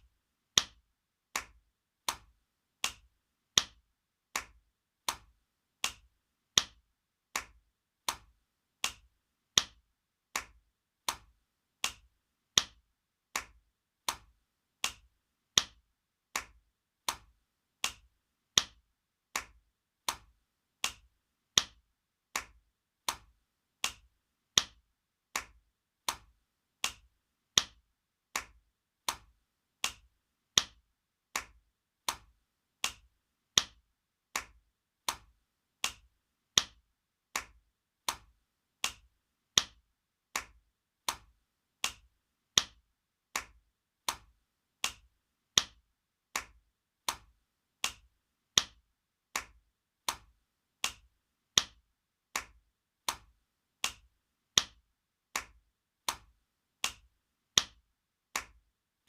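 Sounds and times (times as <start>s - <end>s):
hand slapping skin: 0.6s - 58.6s.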